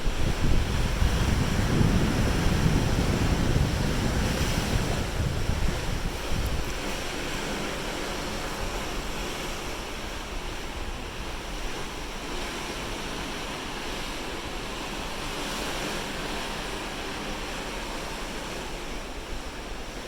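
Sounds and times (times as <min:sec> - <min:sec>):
ocean waves rushing along ship: 0:00.0 - 0:20.0
wind: 0:00.0 - 0:20.0.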